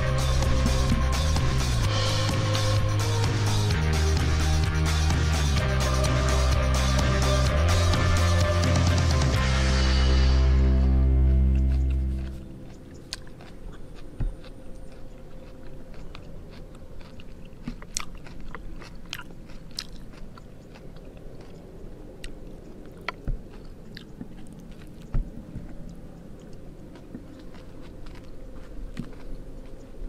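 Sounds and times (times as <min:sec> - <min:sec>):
person chewing food: 0:00.0 - 0:09.4, 0:11.0 - 0:30.0
faint steady hum: 0:00.0 - 0:30.0.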